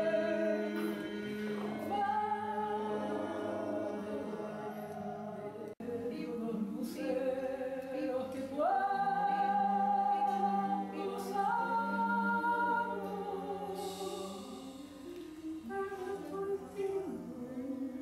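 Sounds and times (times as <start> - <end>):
women singing without accompaniment: 0.0 - 18.0.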